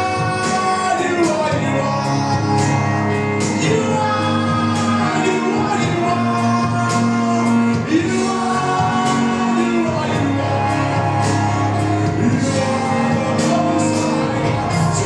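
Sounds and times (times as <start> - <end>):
voices singing: 0.0 - 15.0
worship band playing: 0.0 - 15.0.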